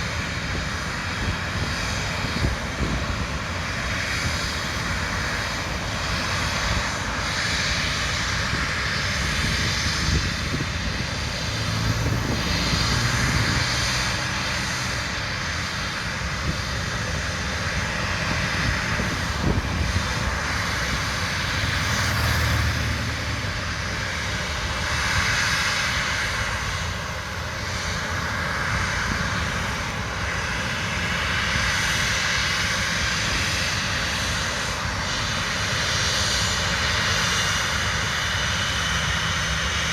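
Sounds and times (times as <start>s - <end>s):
jet airliner engines running: 0.0s - 39.9s.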